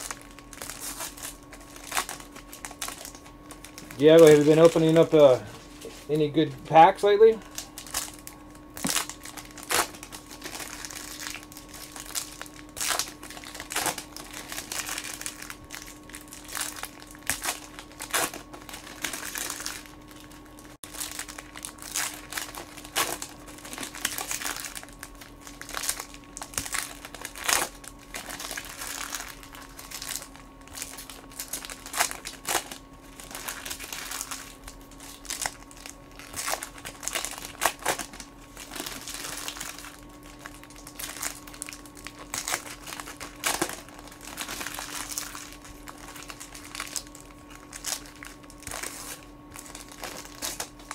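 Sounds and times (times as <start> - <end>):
card wrappers tearing and crumpling: 0.0 - 5.4, 6.1 - 50.9
faint steady hum: 0.0 - 50.9.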